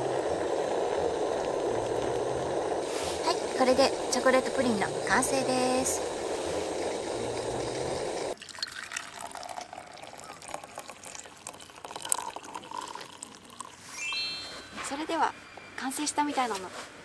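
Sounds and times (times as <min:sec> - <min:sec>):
water pouring into a mug: 0:00.0 - 0:14.0.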